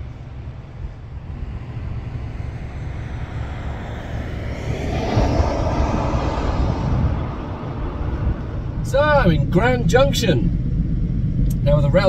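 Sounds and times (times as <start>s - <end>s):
vehicle passing: 0.0s - 11.6s
low rumble: 0.0s - 12.0s.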